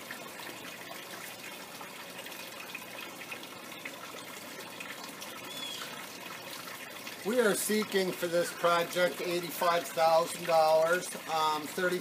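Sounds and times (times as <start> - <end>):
water trickling through pipes: 0.0 - 12.0.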